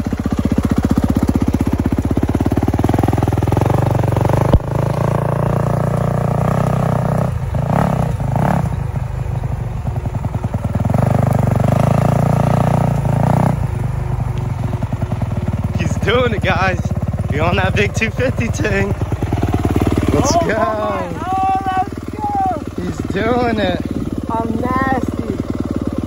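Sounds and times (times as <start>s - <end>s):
motorcycle engine pulling away: 0.0s - 26.0s.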